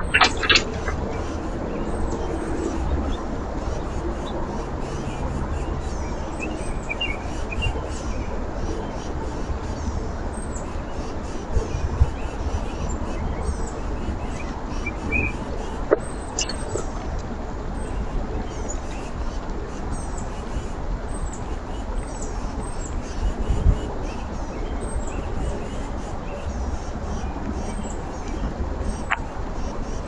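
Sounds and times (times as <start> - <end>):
songbirds chirping: 0.0 - 30.0
steady background rush: 0.0 - 30.0.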